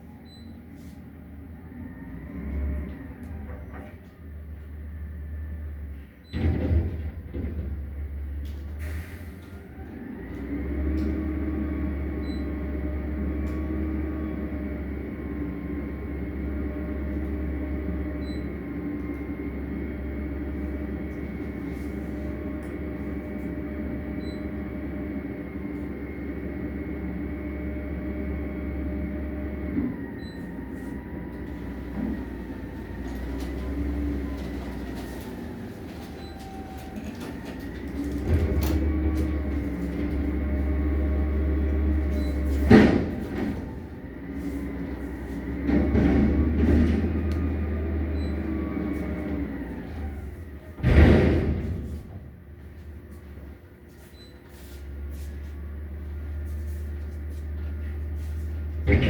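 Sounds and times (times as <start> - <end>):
garbage truck engine running: 1.2 - 59.0.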